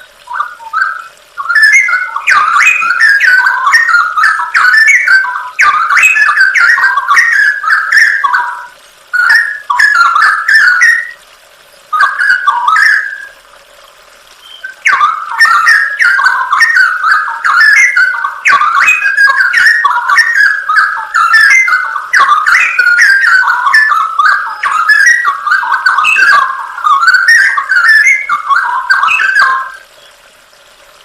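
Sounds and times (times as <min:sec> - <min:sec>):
bird singing whistled phrases: 0:00.0 - 0:11.2, 0:11.8 - 0:13.4, 0:14.4 - 0:30.2.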